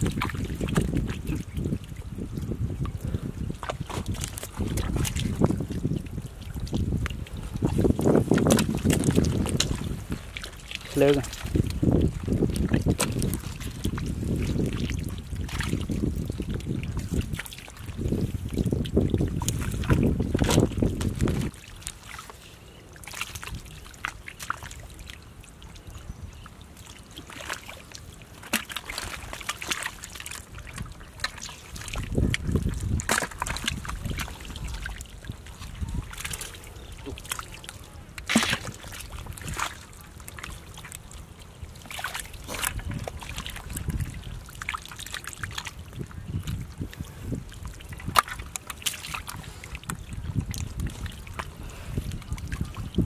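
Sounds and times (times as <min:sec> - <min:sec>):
wet mud squelching and slapping: 0:00.0 - 0:53.0.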